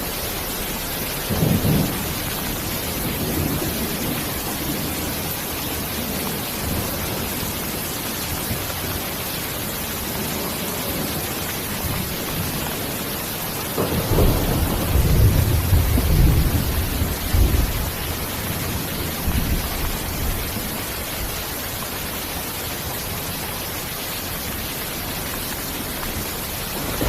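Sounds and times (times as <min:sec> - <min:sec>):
thunder rumble: 0:00.0 - 0:21.4, 0:25.3 - 0:27.0
heavy rain hissing: 0:00.0 - 0:27.0.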